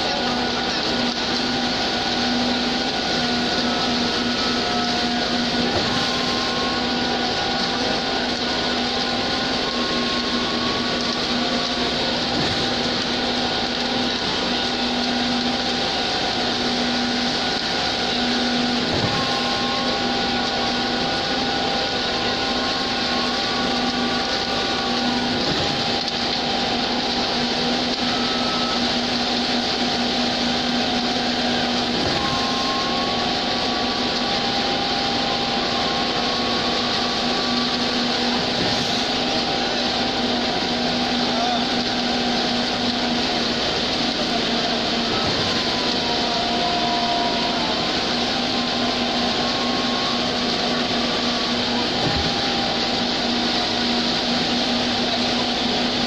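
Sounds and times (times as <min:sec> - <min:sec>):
faint whining tones: 0:00.0 - 0:56.0
mechanical drone with low hum: 0:00.0 - 0:56.0.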